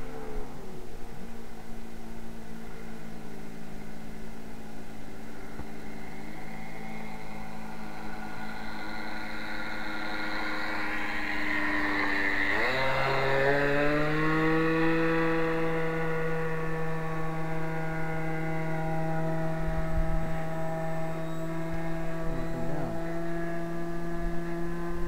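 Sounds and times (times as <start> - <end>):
model airplane engine running: 0.0 - 25.0.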